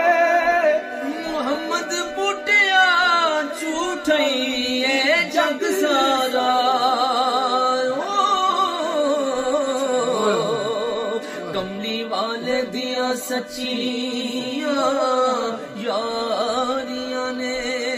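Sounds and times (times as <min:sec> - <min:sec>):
men singing: 0:00.0 - 0:17.9.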